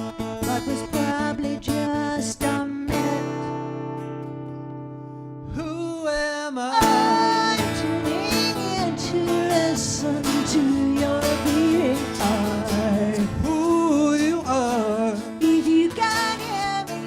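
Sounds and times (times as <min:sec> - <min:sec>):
person singing: 0:00.0 - 0:03.6, 0:05.5 - 0:17.0
guitar accompaniment: 0:00.0 - 0:17.0.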